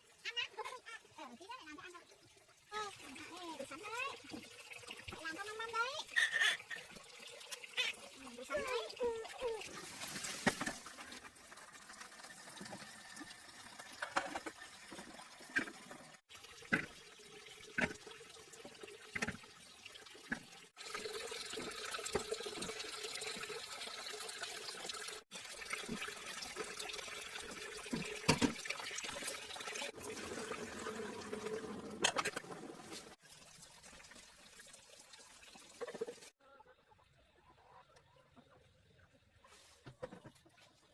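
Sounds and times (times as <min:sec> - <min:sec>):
water pouring and splashing: 0:00.0 - 0:36.4, 0:39.4 - 0:40.9.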